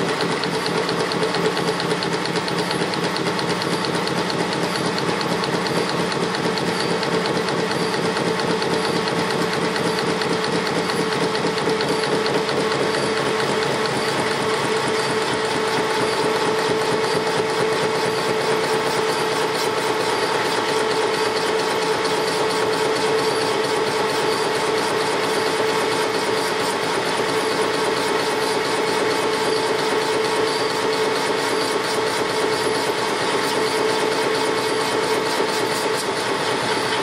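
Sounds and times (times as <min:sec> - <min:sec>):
metal lathe running: 0:00.0 - 0:37.0.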